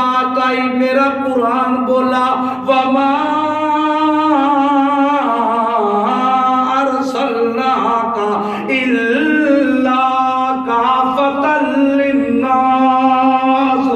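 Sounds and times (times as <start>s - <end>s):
man chanting melodic recitation: 0.0s - 13.9s.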